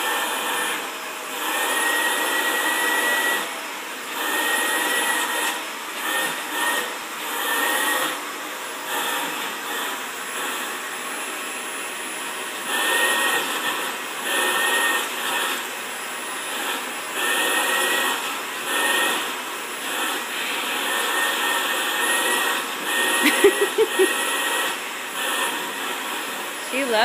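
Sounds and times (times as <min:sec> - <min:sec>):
vacuum cleaner suction: 0:00.0 - 0:27.0.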